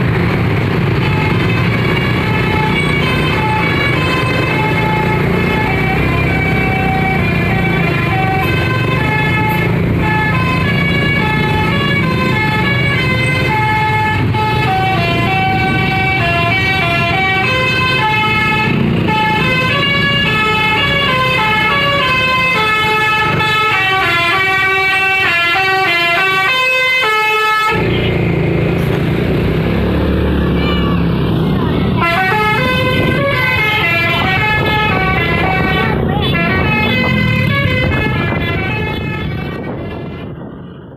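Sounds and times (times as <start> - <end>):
bus engine rumble: 0.0 - 40.9
musical bus air horn: 1.0 - 28.3, 30.5 - 31.2, 32.0 - 40.4.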